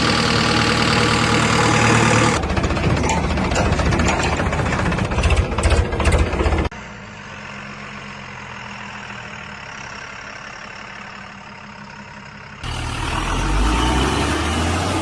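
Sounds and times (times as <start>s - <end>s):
diesel engine clatter: 0.0s - 15.0s
diesel engine hum: 0.0s - 15.0s.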